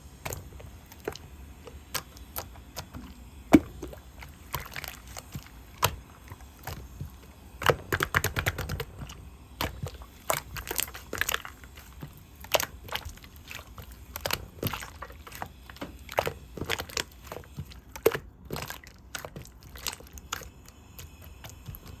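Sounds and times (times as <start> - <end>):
slime squishing with pops: 0.2 - 22.0.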